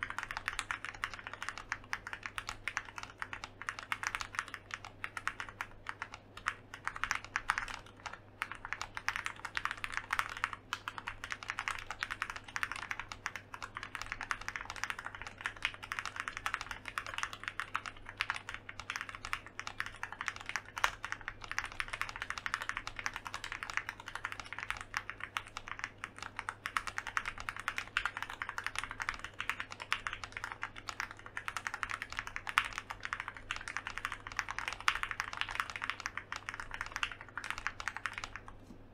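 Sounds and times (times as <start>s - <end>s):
typing on mechanical keyboard: 0.0s - 38.6s.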